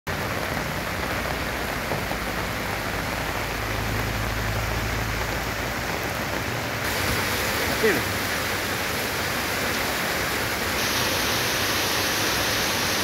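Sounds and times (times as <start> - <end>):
car driving through floodwater: 0.1 - 13.0
heavy rain pouring: 0.1 - 13.0.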